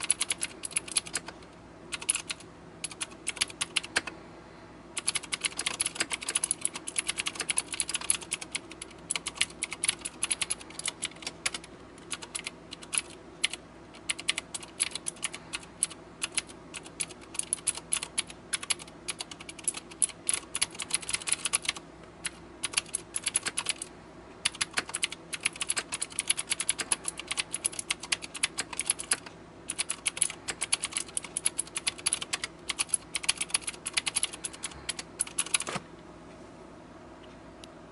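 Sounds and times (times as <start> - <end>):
clicky mechanical keyboard typing: 0.0 - 4.1, 5.0 - 35.8.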